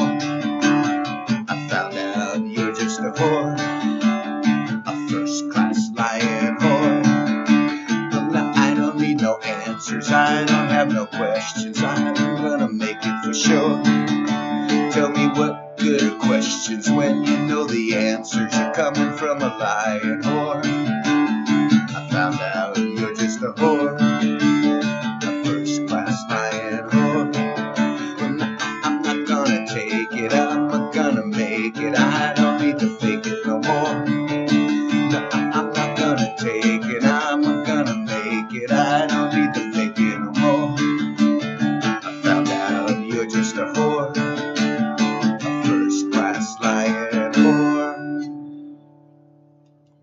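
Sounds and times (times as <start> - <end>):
acoustic guitar strumming chords: 0.0 - 50.0.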